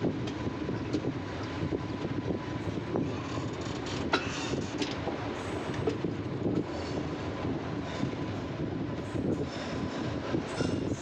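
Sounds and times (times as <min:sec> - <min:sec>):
train wheels rumbling over rails: 0:00.0 - 0:11.0.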